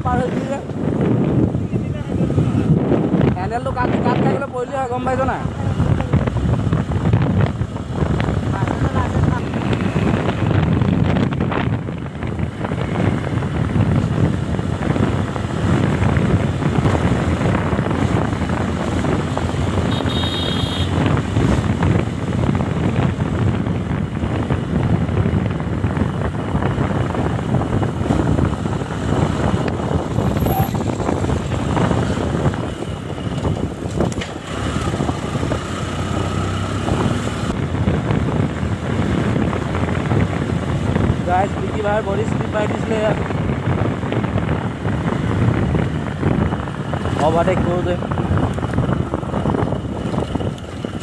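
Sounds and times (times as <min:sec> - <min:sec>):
road noise: 0:00.0 - 0:51.0
wind buffeting microphone: 0:00.0 - 0:51.0
motorcycle engine: 0:05.1 - 0:51.0.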